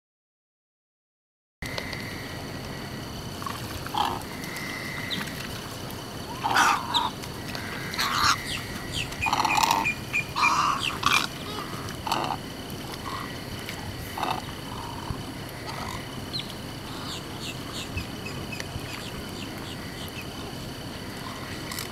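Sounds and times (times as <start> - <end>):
wading birds short low calls: 1.7 - 21.9.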